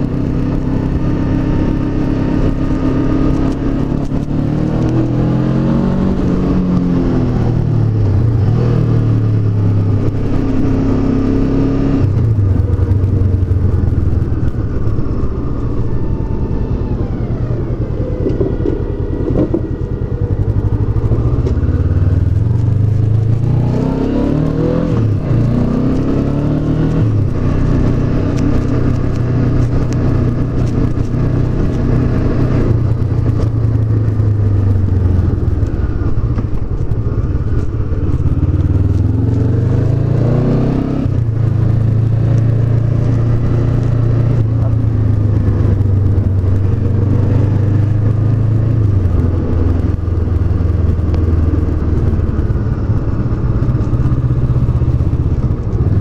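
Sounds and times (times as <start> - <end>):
motorcycle engine rising and falling: 0.0 - 56.0.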